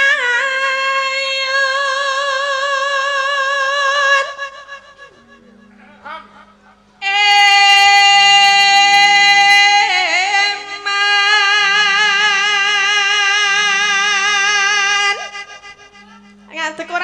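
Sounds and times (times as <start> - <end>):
woman singing into microphone: 0.0 - 5.8, 7.0 - 17.0.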